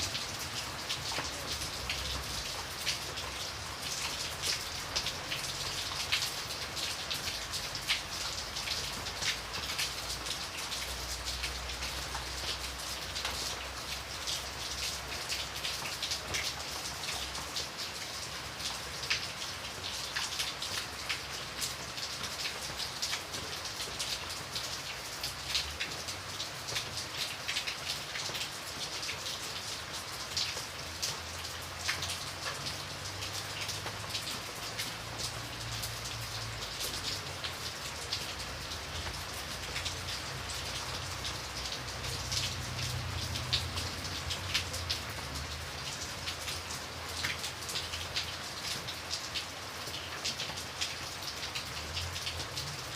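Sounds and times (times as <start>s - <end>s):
steady rain patter: 0.0s - 52.9s.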